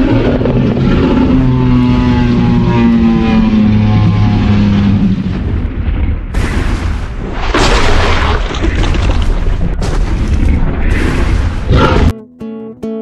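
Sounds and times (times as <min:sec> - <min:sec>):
deep monster rumble with booms: 0:00.0 - 0:12.1.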